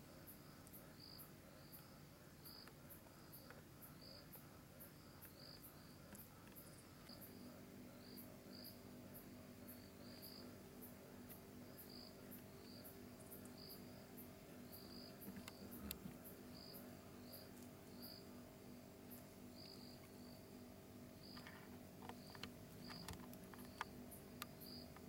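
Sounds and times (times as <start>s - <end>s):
crickets chirping: 0.0s - 25.0s
low steady hum: 0.0s - 25.0s
high insect ticking: 0.1s - 25.0s.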